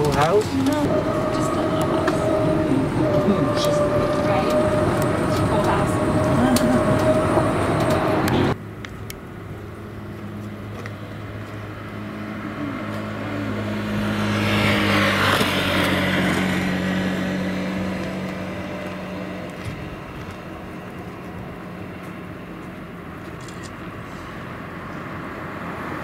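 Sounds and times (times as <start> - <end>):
vehicle passing by: 0.0 - 8.6, 9.4 - 26.0
golf cart motor hum: 0.0 - 23.4.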